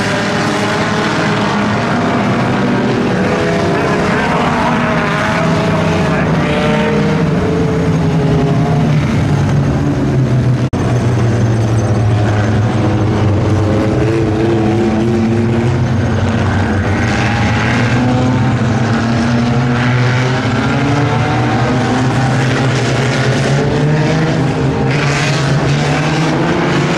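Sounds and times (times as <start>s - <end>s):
race car engines passing: 0.0s - 26.9s.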